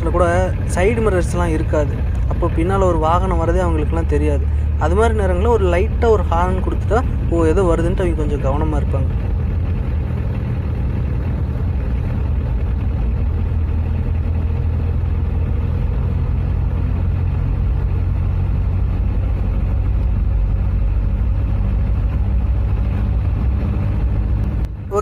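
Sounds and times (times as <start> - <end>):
car engine humming inside cabin: 0.0 - 25.0.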